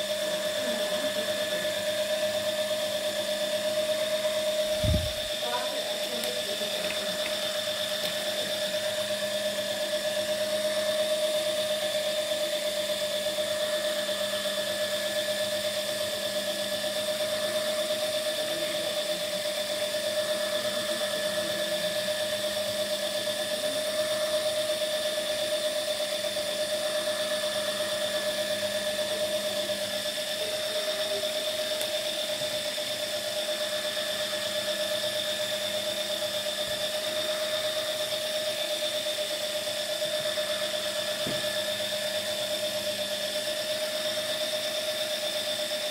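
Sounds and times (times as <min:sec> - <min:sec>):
electric motor and gears whining: 0:00.0 - 0:45.9.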